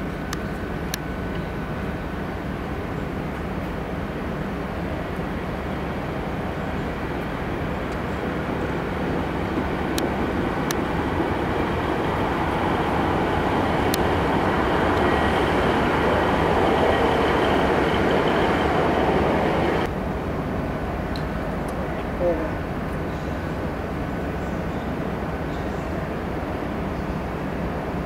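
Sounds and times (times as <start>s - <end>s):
diesel locomotive engine: 0.0s - 28.0s
train rumble: 0.0s - 28.0s.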